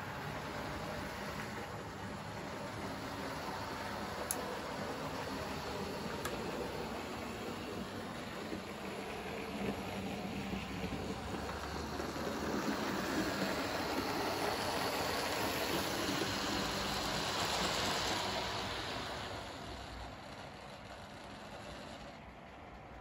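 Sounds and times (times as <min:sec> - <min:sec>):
model train rumbling on rails: 0:00.0 - 0:23.0.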